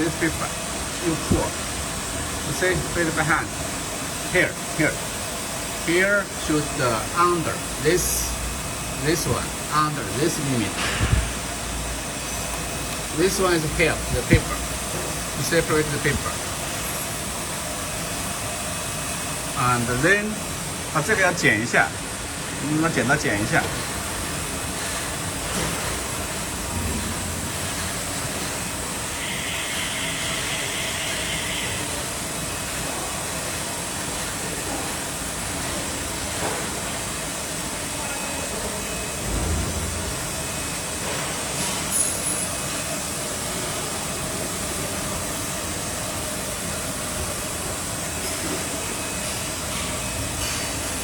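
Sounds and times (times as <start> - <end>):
workshop machinery running: 0.0 - 51.0.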